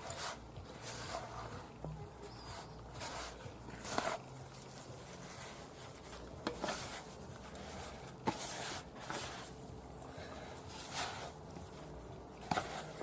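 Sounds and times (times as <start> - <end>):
hands kneading minced meat: 0.0 - 13.0.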